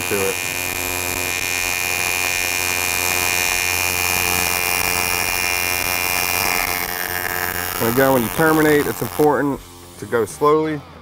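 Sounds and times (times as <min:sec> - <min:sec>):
welding arc buzzing: 0:00.0 - 0:10.7.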